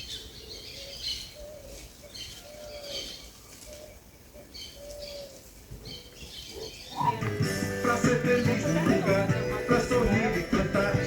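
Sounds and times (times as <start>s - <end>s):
birds calling low notes: 0.0s - 11.0s.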